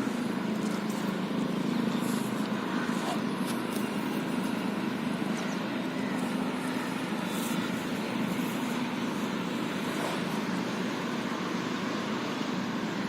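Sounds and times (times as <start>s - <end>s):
mechanical drone with hum and hiss: 0.0s - 13.0s.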